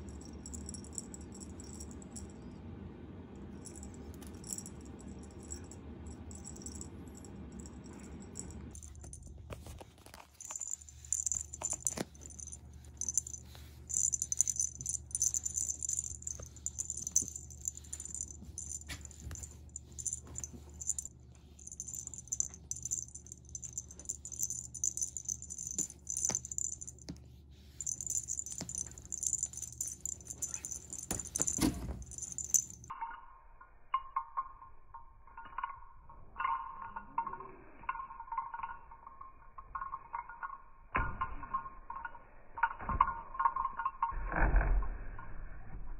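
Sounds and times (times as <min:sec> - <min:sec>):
small bell jingling: 0:00.0 - 0:02.5, 0:03.6 - 0:09.3, 0:10.2 - 0:44.2
low steady hum: 0:00.0 - 0:45.9.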